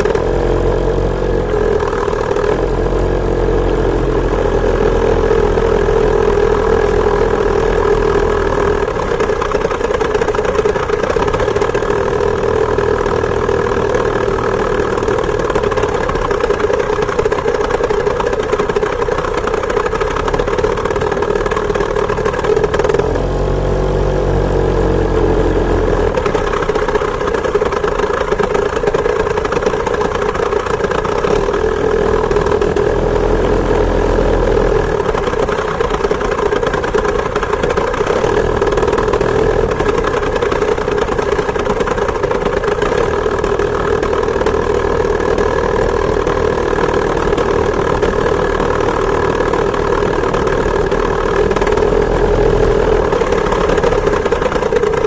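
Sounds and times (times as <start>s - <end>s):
two-stroke moped engine running: 0.0s - 55.0s.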